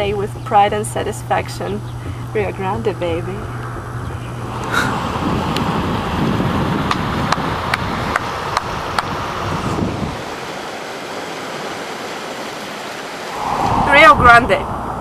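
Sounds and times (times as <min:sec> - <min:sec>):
wind buffeting microphone: 0:00.0 - 0:10.6, 0:13.3 - 0:15.0.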